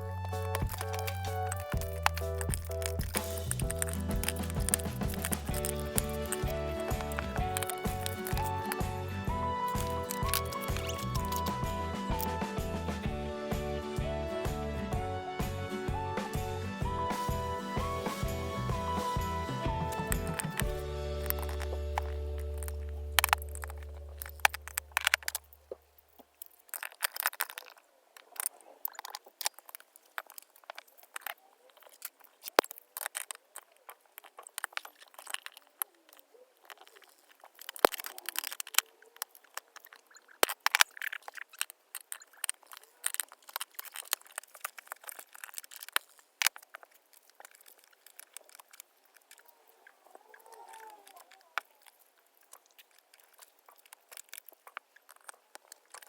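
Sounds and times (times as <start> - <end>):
small hard parts clicking: 0.0 - 12.6, 19.6 - 56.0.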